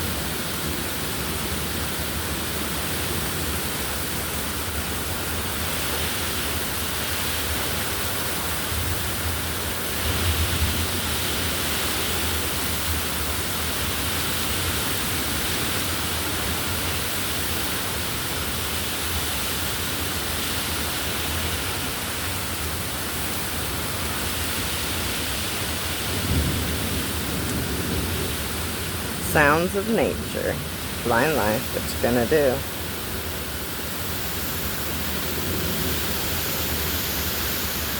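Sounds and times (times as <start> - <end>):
rain: 0.0 - 37.9
wind: 0.0 - 37.9.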